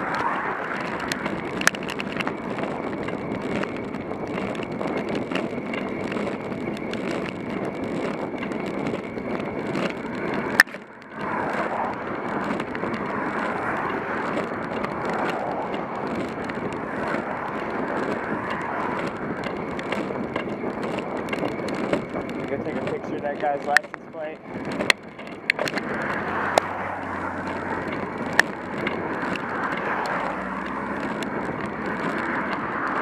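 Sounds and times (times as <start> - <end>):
bicycle rolling rumble and hiss: 0.0 - 33.0
cars passing: 0.0 - 33.0
wind on microphone: 0.0 - 33.0.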